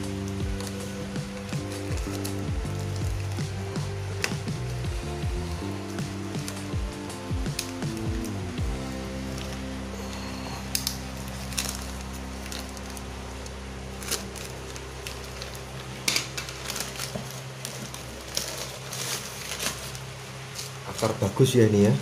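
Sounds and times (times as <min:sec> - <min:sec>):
plastic bag crinkling: 0:00.0 - 0:22.0
steady low hum: 0:00.0 - 0:22.0.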